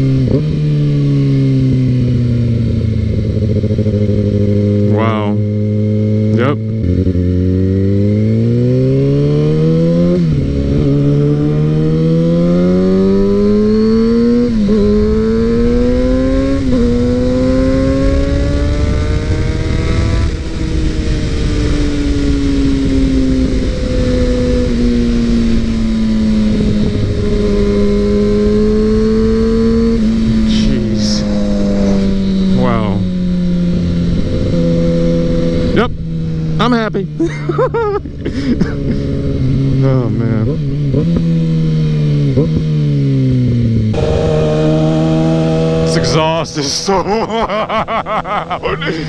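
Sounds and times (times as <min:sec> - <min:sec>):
motorcycle engine riding: 0:00.0 - 0:49.0.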